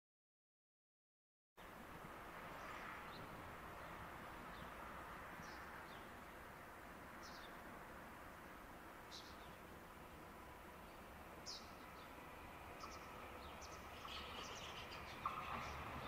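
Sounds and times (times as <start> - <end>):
outdoor background noise: 1.6 - 16.0.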